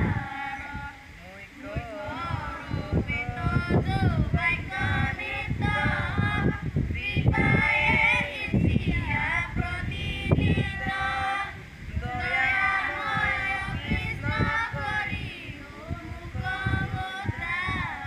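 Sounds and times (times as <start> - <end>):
children singing a prayer song: 0.0 - 18.0.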